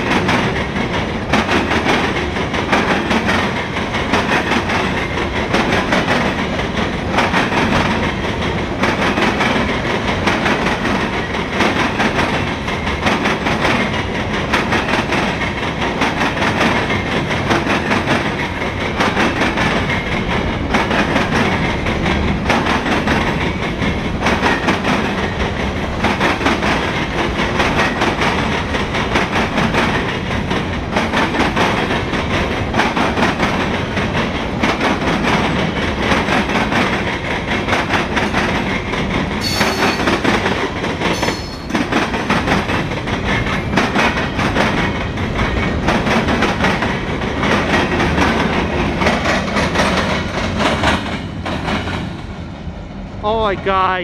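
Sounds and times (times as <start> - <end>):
steel wheels clattering on rails: 0.0 - 52.2
freight train rumbling past: 0.0 - 54.0.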